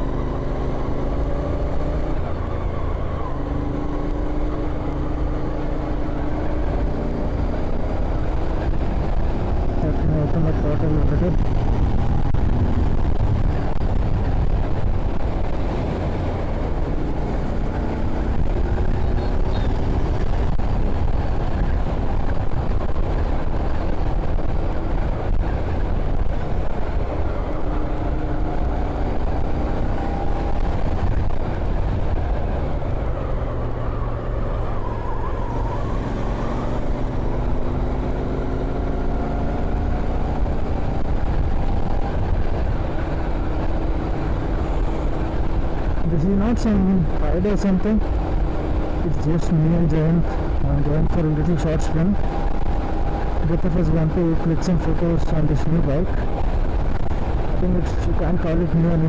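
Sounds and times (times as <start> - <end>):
motorcycle engine accelerating: 0.0 - 59.0
wind rushing on microphone: 0.0 - 59.0.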